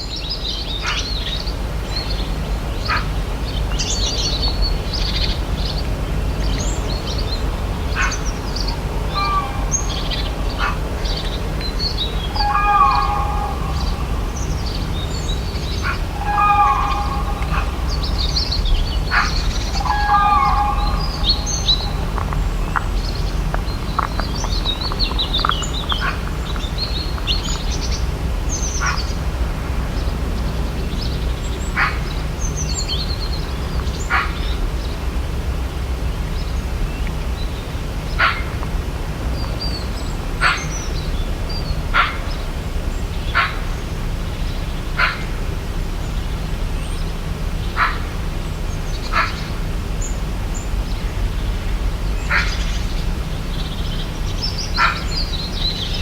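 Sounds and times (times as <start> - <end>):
waterbirds calling: 0.0 - 56.0
steady low rumble: 0.3 - 56.0.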